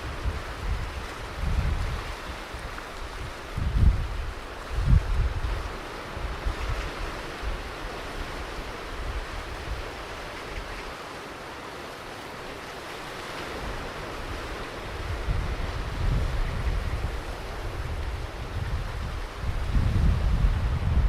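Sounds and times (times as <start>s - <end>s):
wind buffeting microphone: 0.0s - 10.9s, 13.5s - 21.0s
ocean surf washing on beach: 0.0s - 21.0s.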